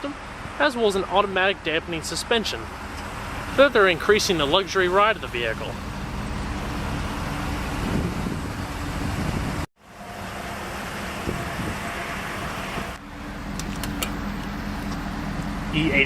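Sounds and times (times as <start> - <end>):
traffic noise with engine hum: 0.0 - 16.0.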